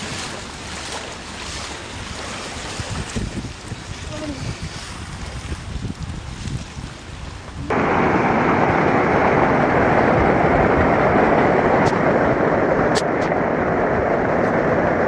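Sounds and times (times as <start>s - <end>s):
fast-flowing floodwater rushing: 0.0s - 5.8s, 7.6s - 15.0s.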